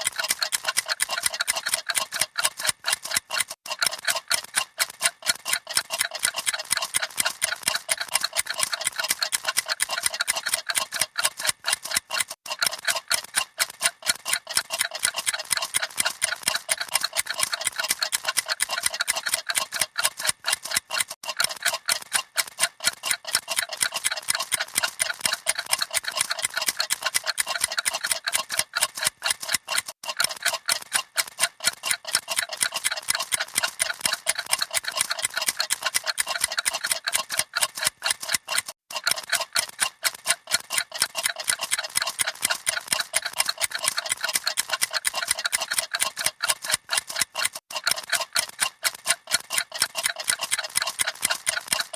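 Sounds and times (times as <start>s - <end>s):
mechanical clocks ticking: 0.0s - 51.9s.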